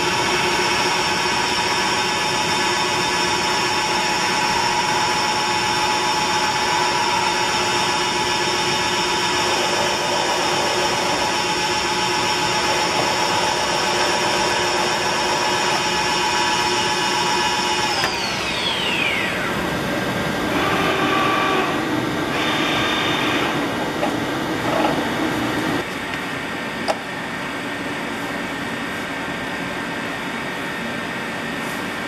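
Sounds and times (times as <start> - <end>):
machine whirring: 0.0 - 27.4
milling machine whine: 0.0 - 32.0.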